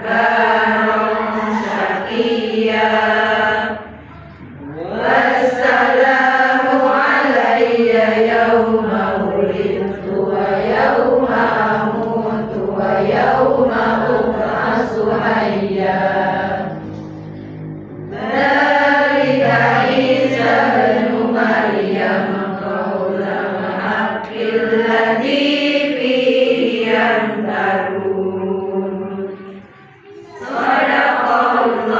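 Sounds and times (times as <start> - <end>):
person chanting a recitation: 0.0 - 31.9.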